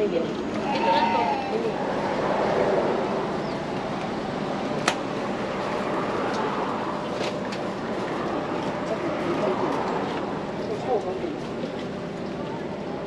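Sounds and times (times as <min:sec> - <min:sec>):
outdoor background din: 0:00.0 - 0:13.0.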